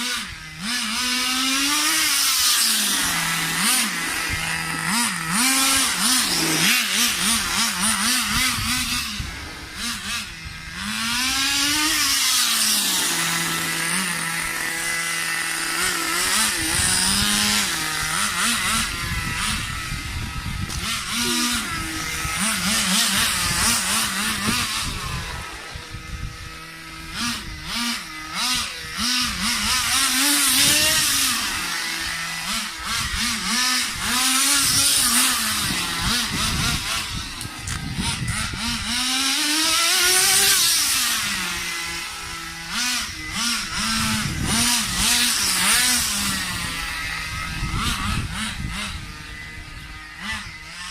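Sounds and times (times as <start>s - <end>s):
small nitro engine revving: 0.0s - 50.9s.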